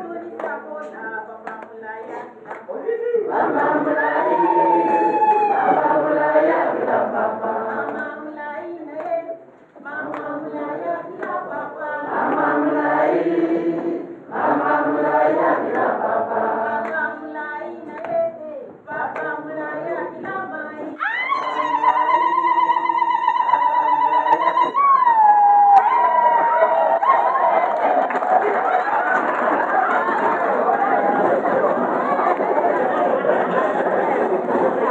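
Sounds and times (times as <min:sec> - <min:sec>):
group singing unaccompanied: 0:00.0 - 0:34.9.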